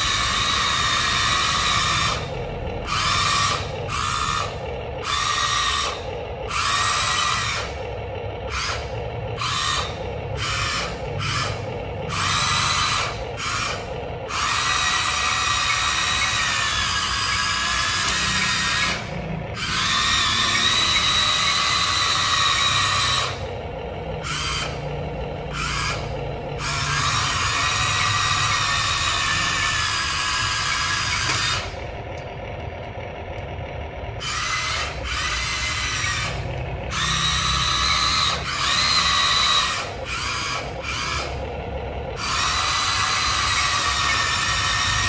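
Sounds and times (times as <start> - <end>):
electric motors whining: 0.0 - 45.0.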